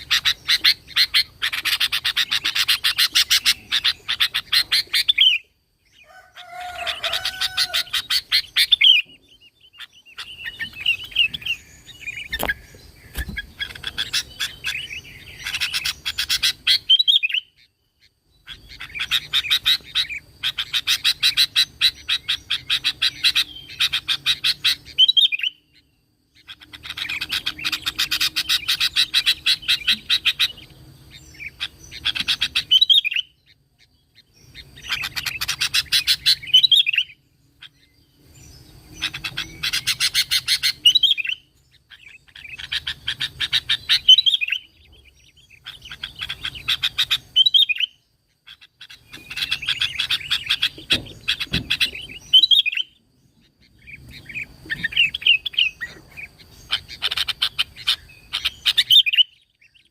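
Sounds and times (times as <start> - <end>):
bird chattering song: 0.0 - 59.9.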